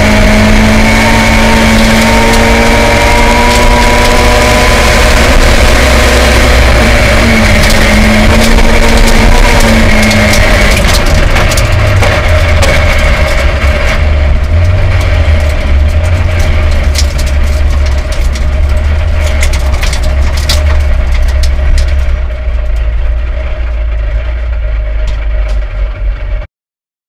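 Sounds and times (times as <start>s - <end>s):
car engine at low revs: 0.0s - 26.5s.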